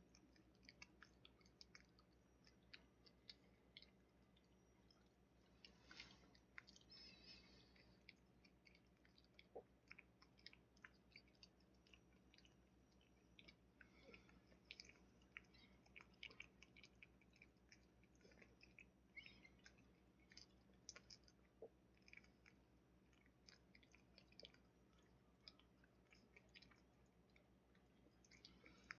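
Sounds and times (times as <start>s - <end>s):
dog chewing clicks and smacks: 0.0s - 5.0s, 7.7s - 28.7s.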